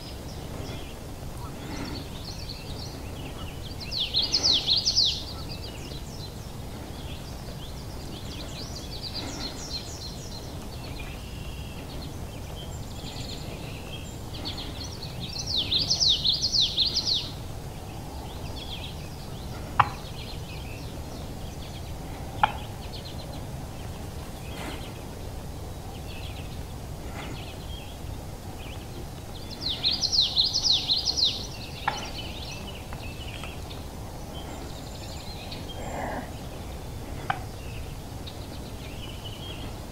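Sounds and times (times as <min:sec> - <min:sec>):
low outdoor rumble: 0:00.0 - 0:39.9
small birds chirping: 0:00.0 - 0:39.9.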